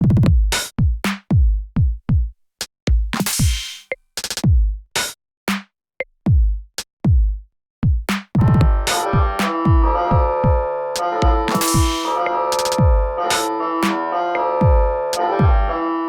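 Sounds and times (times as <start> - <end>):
drum machine beat: 0.0 - 2.3, 2.9 - 5.7, 6.3 - 14.0, 14.6 - 15.7.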